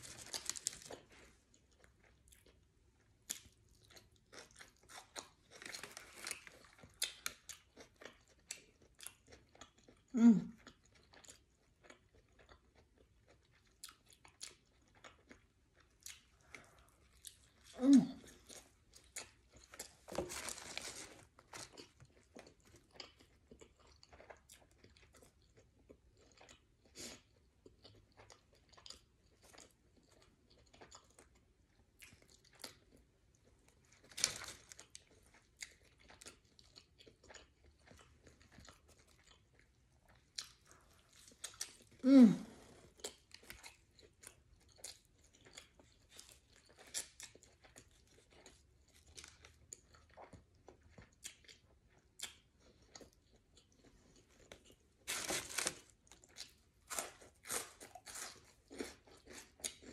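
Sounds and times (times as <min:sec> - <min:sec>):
person chewing and crunching: 0:00.0 - 0:59.9.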